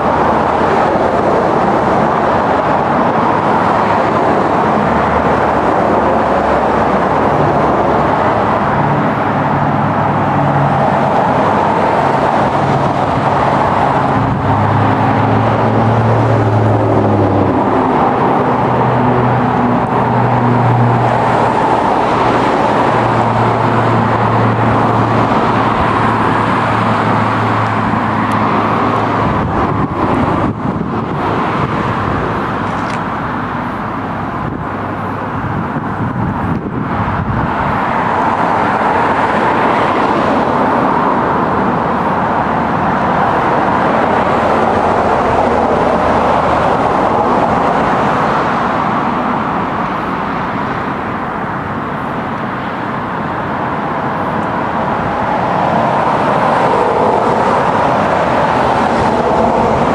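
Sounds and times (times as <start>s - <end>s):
low engine hum: 0.0s - 59.9s
road vehicle noise: 0.0s - 59.9s.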